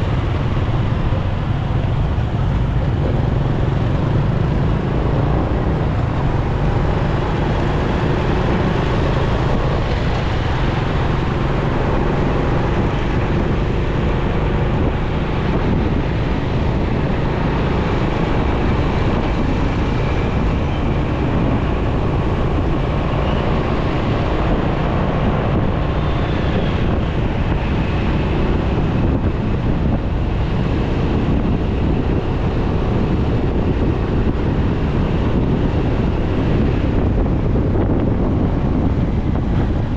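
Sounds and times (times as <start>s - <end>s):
motorcycle engine running: 0.0s - 39.9s
road traffic: 0.0s - 39.9s
wind on microphone: 0.0s - 39.9s.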